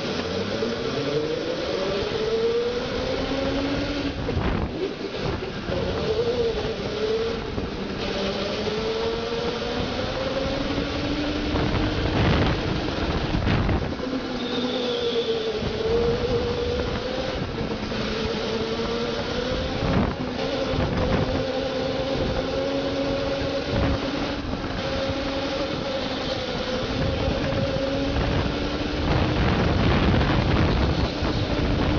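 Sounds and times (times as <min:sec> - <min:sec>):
go-kart motor whining: 0:00.0 - 0:31.9.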